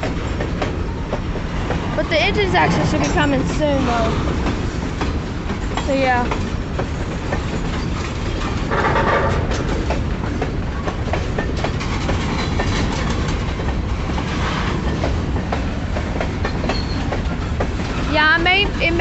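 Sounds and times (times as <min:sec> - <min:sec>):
freight train low rumble: 0:00.0 - 0:19.0
wheels clicking over rail joints: 0:00.0 - 0:19.0.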